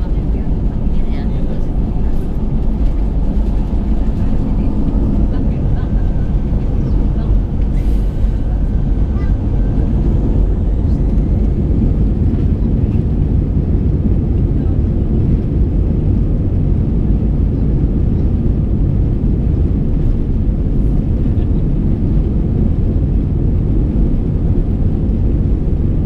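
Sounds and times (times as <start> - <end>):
jet engines rumbling: 0.0 - 26.0
wheels running on runway: 0.0 - 26.0.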